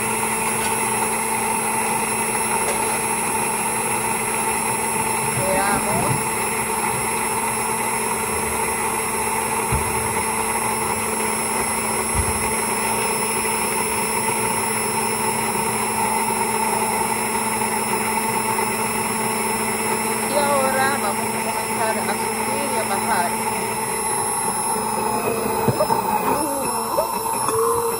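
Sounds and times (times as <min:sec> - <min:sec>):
stick blender running in glass jar: 0:00.0 - 0:27.9.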